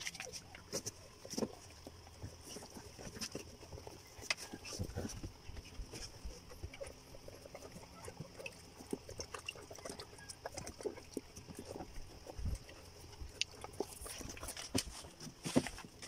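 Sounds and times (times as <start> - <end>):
faint small clicks and rustles: 0.0 - 16.0.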